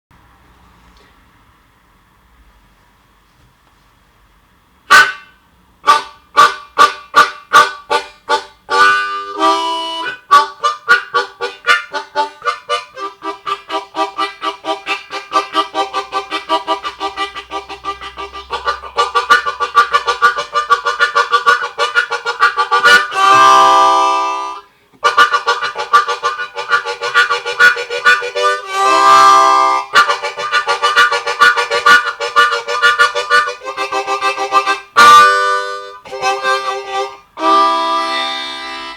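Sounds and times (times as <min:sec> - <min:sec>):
harmonica train imitation: 0:04.9 - 0:38.9.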